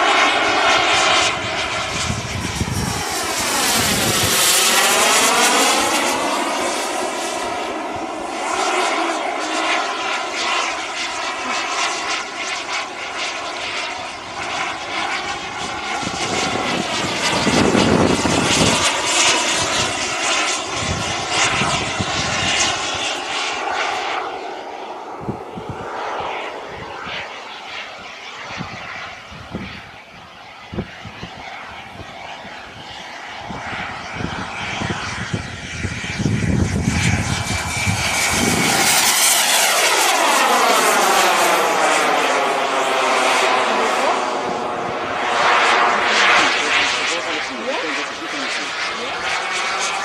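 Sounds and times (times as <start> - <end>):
model jet turbine whine: 0.0 - 50.0.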